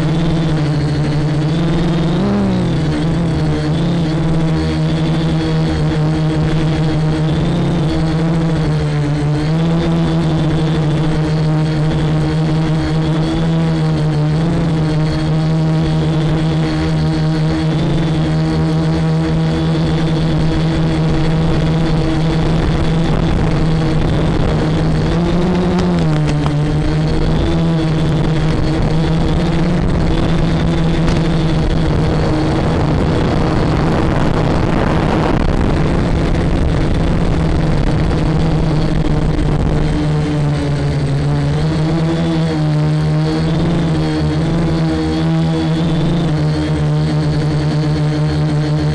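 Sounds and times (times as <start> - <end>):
quadcopter propellers buzzing: 0.0 - 48.9.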